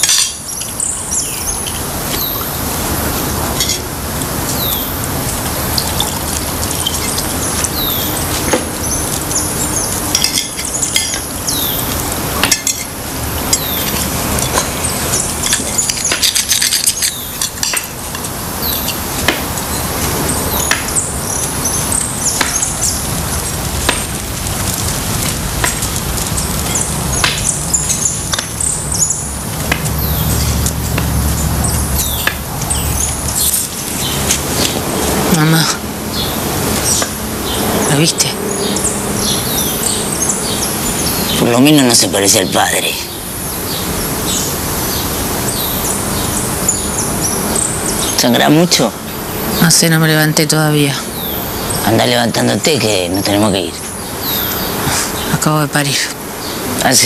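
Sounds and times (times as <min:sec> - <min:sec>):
crackly background hiss: 0:00.0 - 0:57.0.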